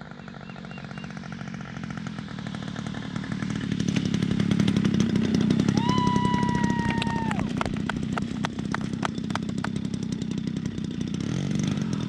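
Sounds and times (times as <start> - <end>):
model airplane engine: 0.0 - 12.0.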